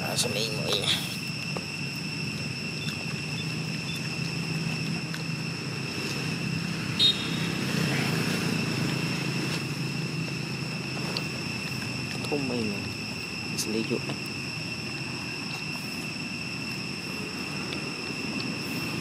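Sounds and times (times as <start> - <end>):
distant vehicle engines rumbling: 0.0 - 19.0
thin high whine: 0.0 - 19.0.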